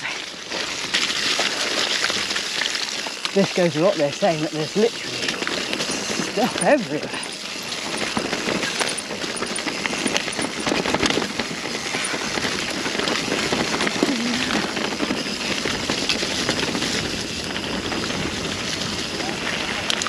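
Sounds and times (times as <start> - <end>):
bike rattling and clattering: 0.0 - 20.0
tyre and trail noise: 0.0 - 20.0.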